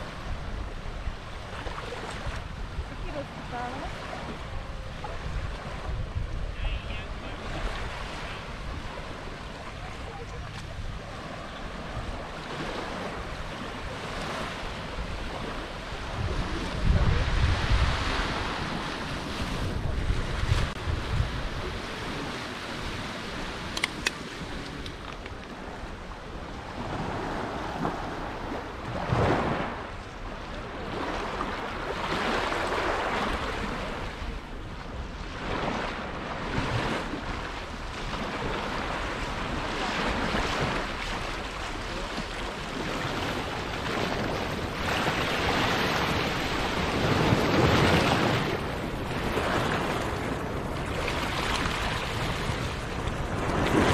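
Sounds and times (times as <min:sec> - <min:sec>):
waves washing up a beach: 0:00.0 - 0:53.9
wind on microphone: 0:00.0 - 0:53.9.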